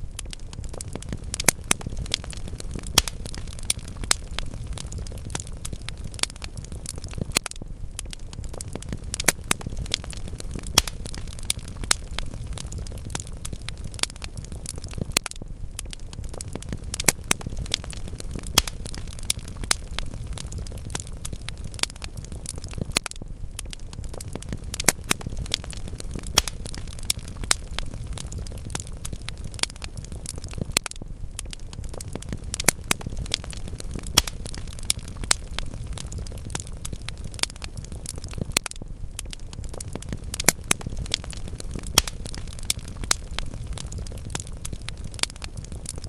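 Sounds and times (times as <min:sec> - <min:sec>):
logs crackling and popping: 0:00.0 - 0:46.0
low background of fire: 0:00.0 - 0:46.0
low rumble of flames: 0:00.0 - 0:46.0.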